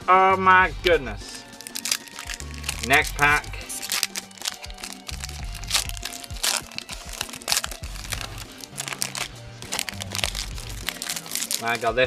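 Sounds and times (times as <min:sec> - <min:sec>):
background music: 0:00.0 - 0:12.0
foil wrapper tearing and crinkling: 0:01.4 - 0:12.0.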